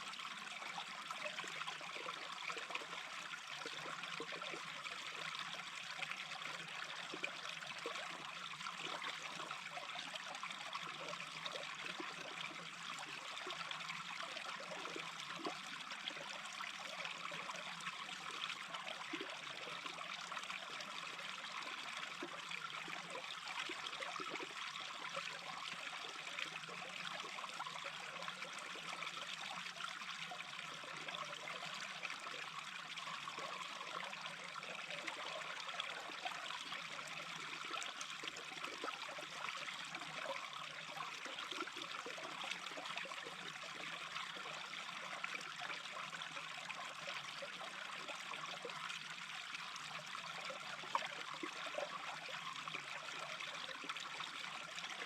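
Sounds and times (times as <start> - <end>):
brook babbling: 0.0 - 55.0.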